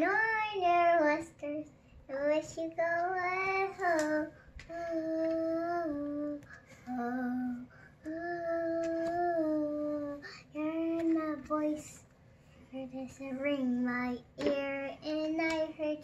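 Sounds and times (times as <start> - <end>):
girl singing unaccompanied: 0.0 - 12.1, 12.7 - 16.0.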